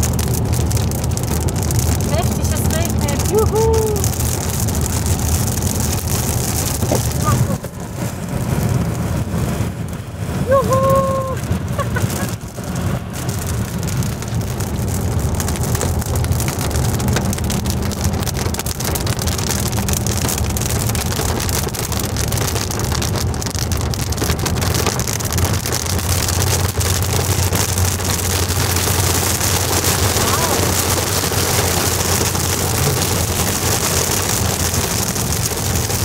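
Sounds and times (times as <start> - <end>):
car rumbling on wet road: 0.0 - 36.0
rain hitting car windshield: 0.0 - 36.0.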